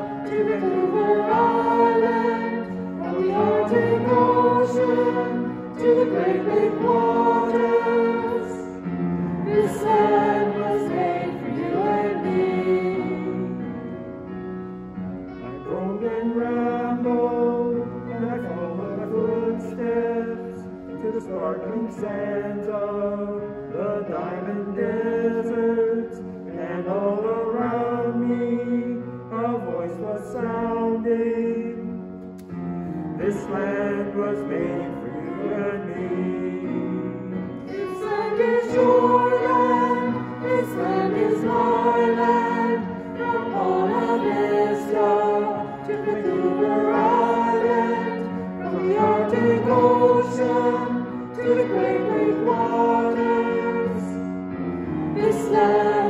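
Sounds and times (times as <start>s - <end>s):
group singing a hymn: 0.0s - 14.0s, 15.6s - 32.0s, 32.8s - 56.0s.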